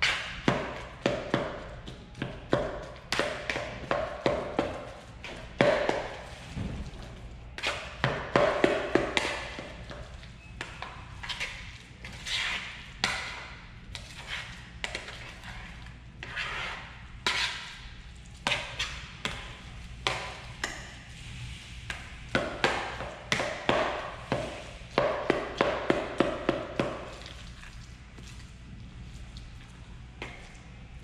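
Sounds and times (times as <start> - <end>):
scraping and squelching: 0.0 - 2.1, 2.8 - 30.8.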